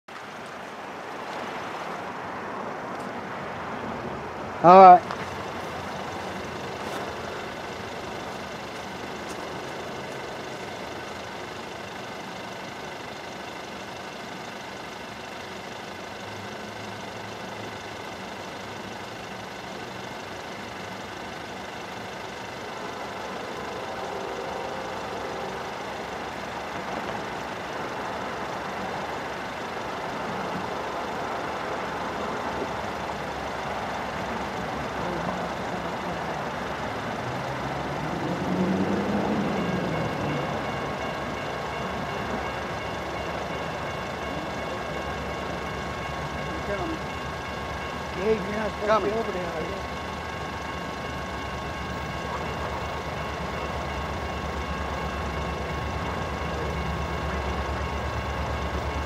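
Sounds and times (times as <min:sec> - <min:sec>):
diesel locomotive engine rumble: 0:00.1 - 0:59.0.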